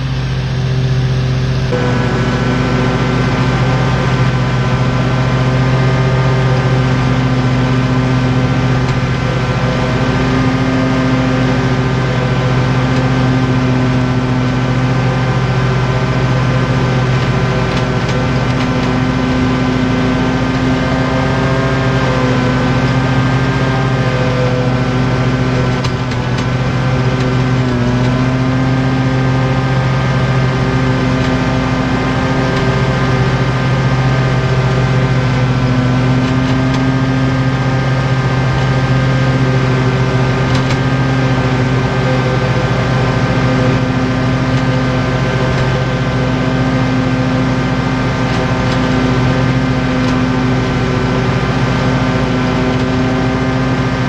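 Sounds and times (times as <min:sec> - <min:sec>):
mower engine cutting grass: 0:00.0 - 0:54.0.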